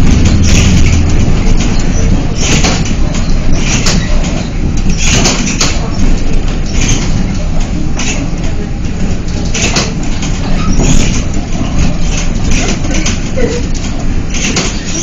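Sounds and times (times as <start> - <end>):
car road and engine rumble: 0.0 - 14.6.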